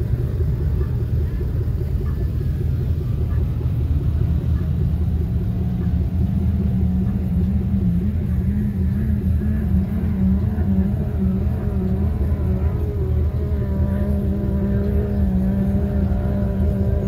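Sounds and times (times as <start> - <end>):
off-road vehicle engine rumbling: 0.0 - 17.0.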